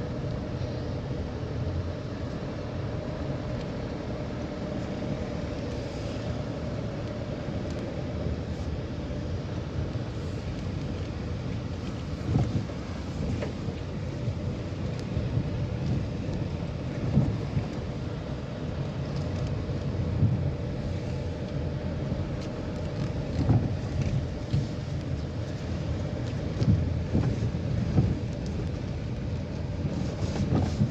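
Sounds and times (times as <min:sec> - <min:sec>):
vehicle rumbling on rough road: 0:00.0 - 0:30.9.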